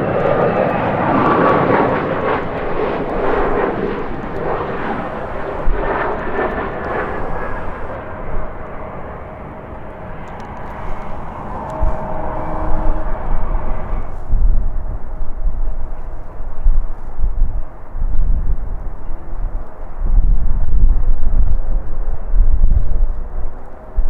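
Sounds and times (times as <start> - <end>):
faint engine whine: 0.0 - 20.0
jet airliner engine roar: 0.0 - 24.0
wind buffeting microphone: 0.0 - 24.0.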